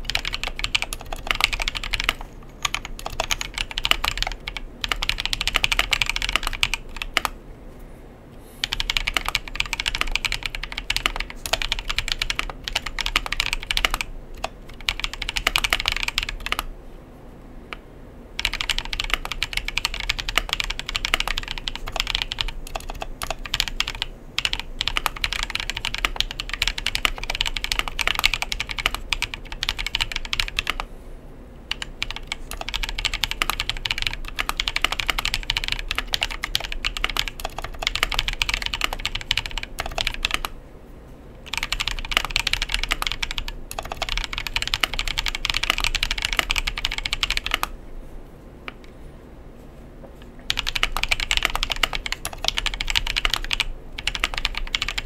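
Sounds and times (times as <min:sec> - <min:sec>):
fast mechanical keyboard typing: 0:00.0 - 0:07.4, 0:08.6 - 0:16.7, 0:18.4 - 0:30.9, 0:31.7 - 0:40.6, 0:41.4 - 0:47.7, 0:50.5 - 0:55.0.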